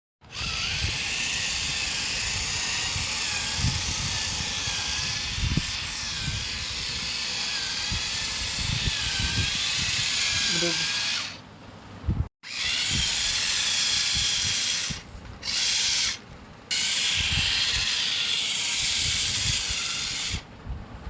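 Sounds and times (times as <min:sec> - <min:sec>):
small electric motor whine: 0:00.2 - 0:11.4, 0:12.4 - 0:20.5.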